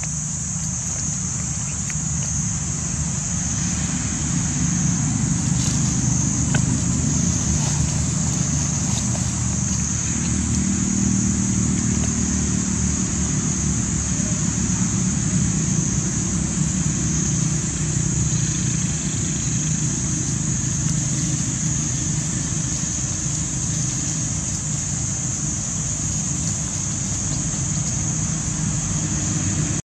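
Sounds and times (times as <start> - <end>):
high-pitched hiss: 0.0 - 29.8
low rumble: 2.5 - 29.6.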